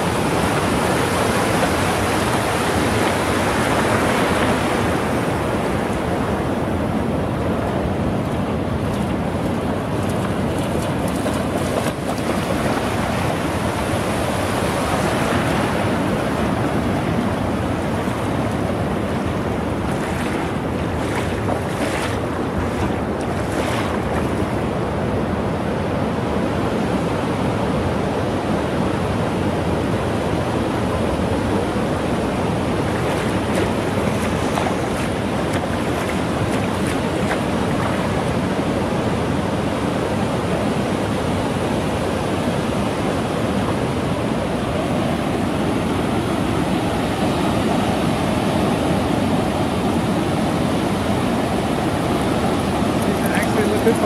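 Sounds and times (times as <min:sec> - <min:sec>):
ocean surf breaking: 0:00.0 - 0:25.0, 0:31.6 - 0:54.0.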